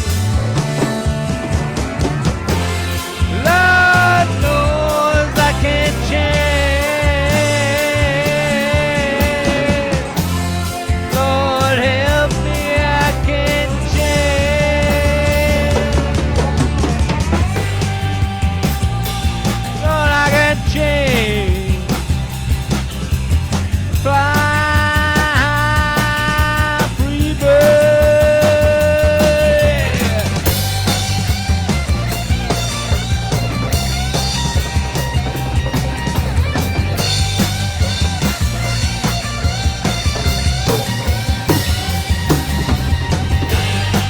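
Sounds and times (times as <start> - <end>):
electric guitar lead: 0.0 - 44.0
steady drum beat: 0.0 - 44.0.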